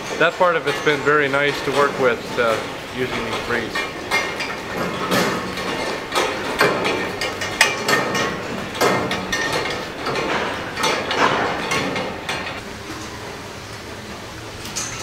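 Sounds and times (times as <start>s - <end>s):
metal feed barrier clanking: 0.0s - 12.6s.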